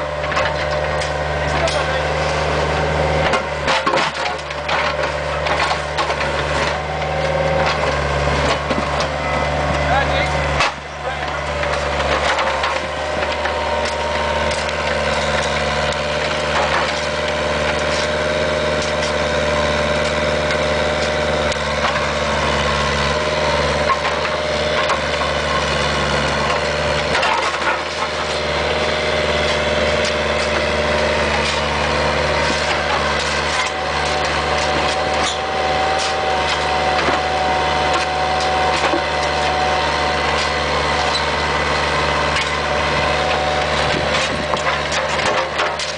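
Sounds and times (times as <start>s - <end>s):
asphalt cracking and crunching: 0.0s - 45.9s
excavator diesel engine running: 0.0s - 45.9s.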